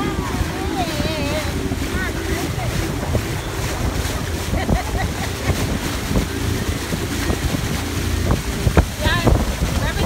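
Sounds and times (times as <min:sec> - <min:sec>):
boat under way: 0:00.0 - 0:10.0
churning wake: 0:00.0 - 0:10.0
faint voices: 0:00.0 - 0:10.0
wind buffeting microphone: 0:00.0 - 0:10.0.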